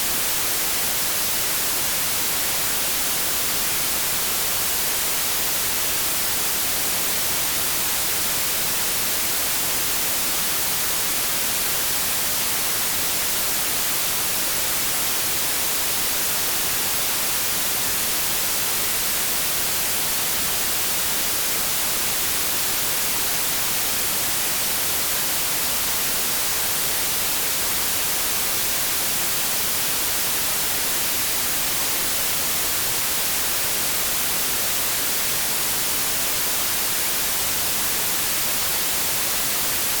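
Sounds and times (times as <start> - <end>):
white noise hiss: 0.0 - 40.0.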